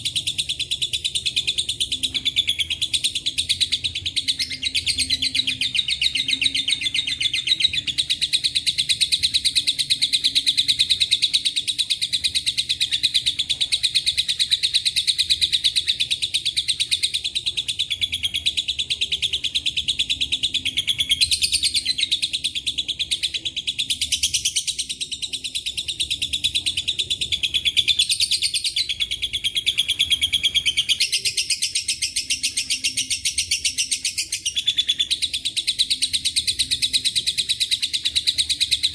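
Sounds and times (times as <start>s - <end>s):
lovebird chattering chirps: 0.0s - 38.9s.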